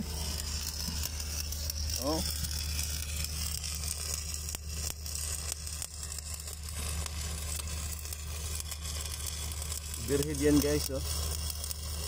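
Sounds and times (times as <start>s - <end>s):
low hum: 0.0s - 10.2s
welding arc crackling: 0.0s - 12.0s.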